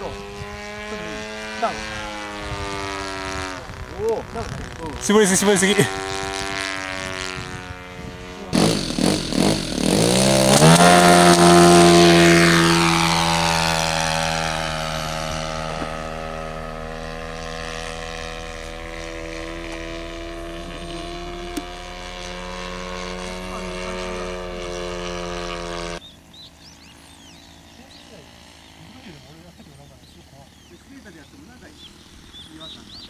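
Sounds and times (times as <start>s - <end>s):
model airplane engine revving: 0.0s - 33.0s.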